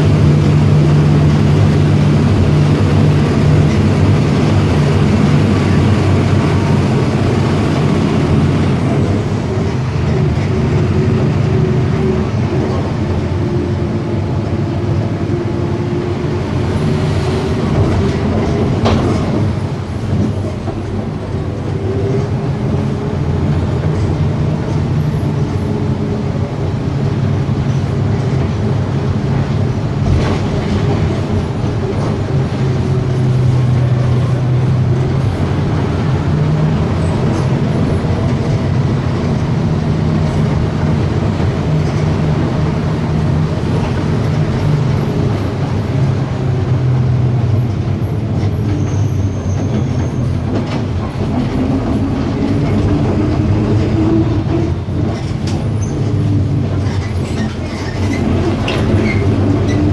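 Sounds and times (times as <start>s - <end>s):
bus diesel engine droning: 0.0s - 59.9s.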